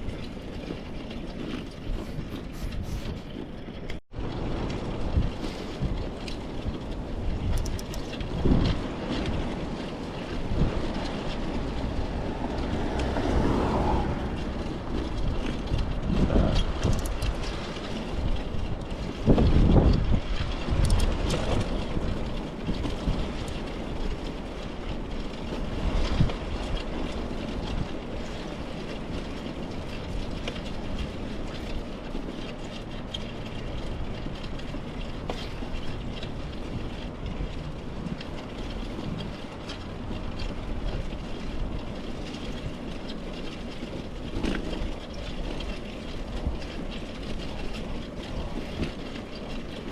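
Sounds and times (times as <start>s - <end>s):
bicycle road and wind rumble: 0.0s - 49.9s.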